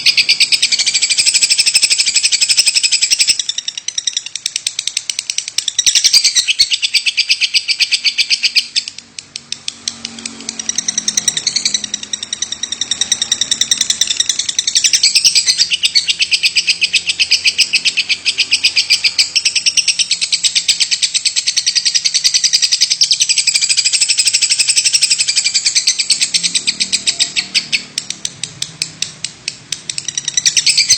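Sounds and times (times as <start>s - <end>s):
lovebird chattering: 0.0s - 30.9s.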